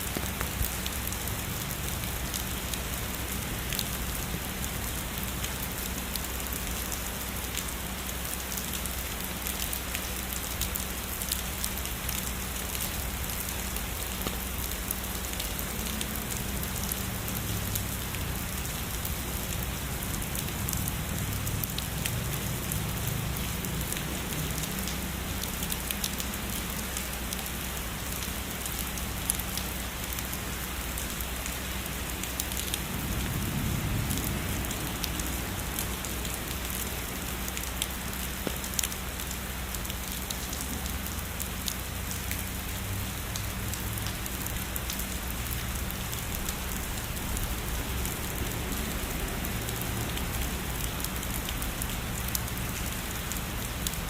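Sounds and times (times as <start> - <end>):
heavy rainfall: 0.0 - 54.0
raindrops ticking on a surface: 0.0 - 54.0.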